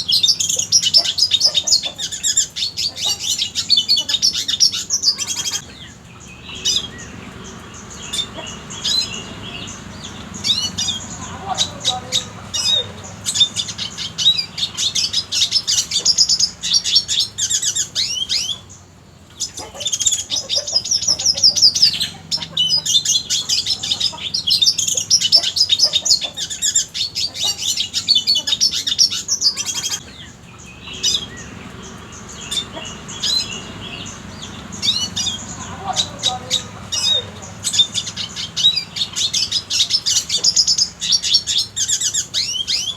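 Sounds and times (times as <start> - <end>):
bird singing high twitters: 0.0 - 42.9.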